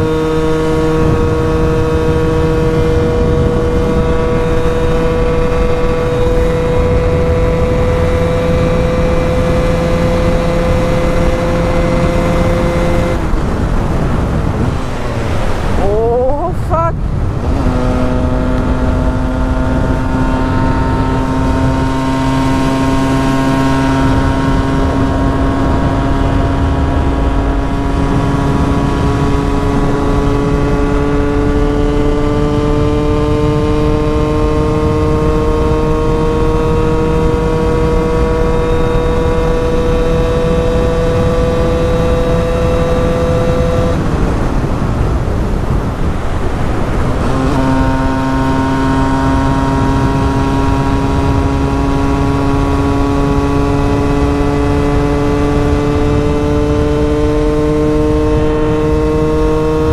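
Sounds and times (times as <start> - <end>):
motorcycle engine at high revs: 0.0 - 59.9
wind rushing: 0.0 - 59.9.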